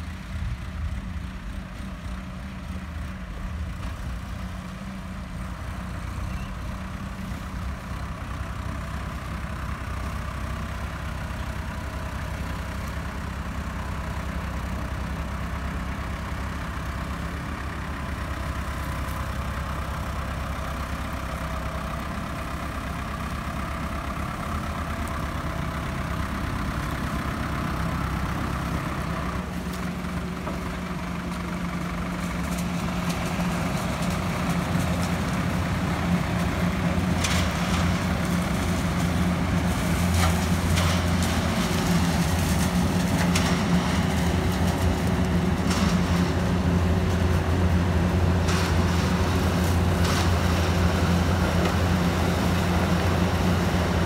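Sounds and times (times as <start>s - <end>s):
harvester diesel engine running: 0.0s - 54.0s.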